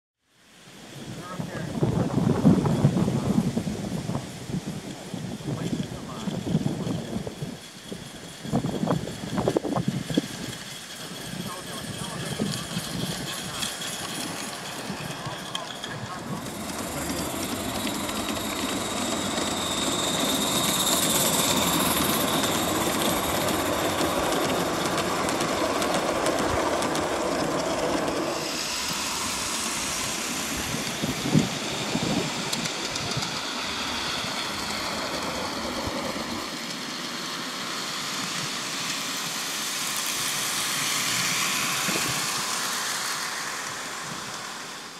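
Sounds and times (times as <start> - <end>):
model steam locomotives running: 0.9 - 44.9
wheels on rails: 2.0 - 44.9.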